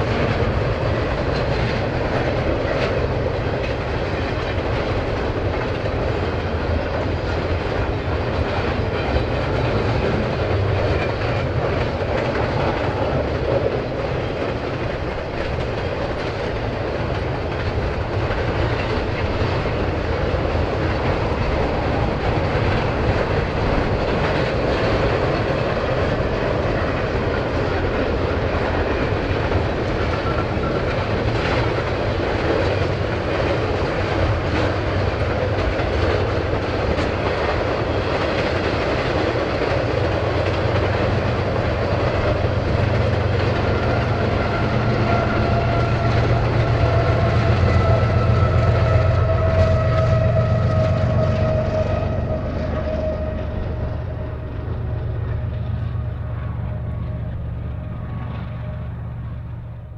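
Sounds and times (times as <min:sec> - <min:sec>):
clicking over rail joints: 0:00.0 - 0:59.4
diesel locomotive drone: 0:00.0 - 0:59.9
train wheels rumbling on rail: 0:00.0 - 0:59.9.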